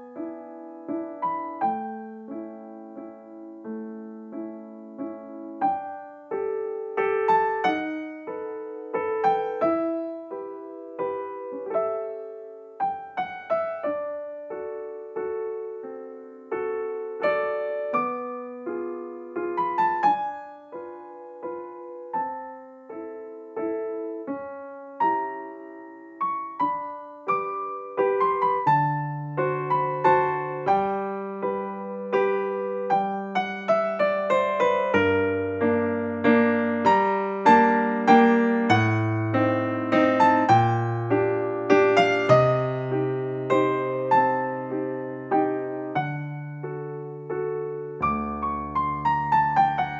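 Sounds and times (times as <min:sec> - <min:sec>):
gentle piano melody: 0:00.0 - 0:49.9.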